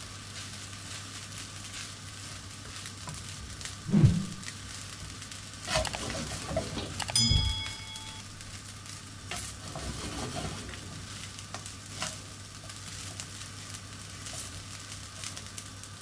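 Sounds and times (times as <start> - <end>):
rice sizzling in a pan: 0.0 - 3.8, 4.5 - 16.0.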